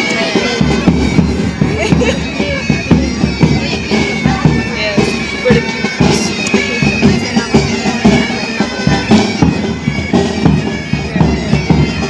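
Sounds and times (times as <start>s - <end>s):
bagpipes melody: 0.0s - 12.0s
drums beating: 0.0s - 12.0s.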